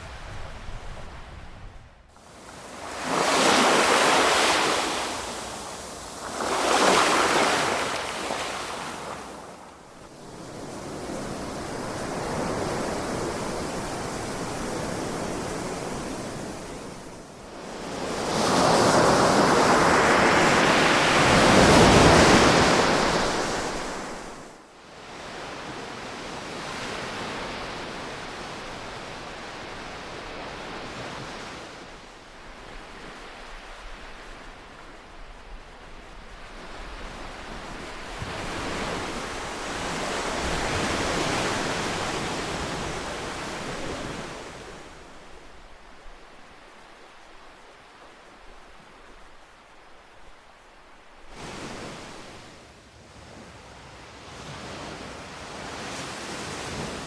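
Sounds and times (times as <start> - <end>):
ocean waves washing onto shore: 0.0 - 57.0.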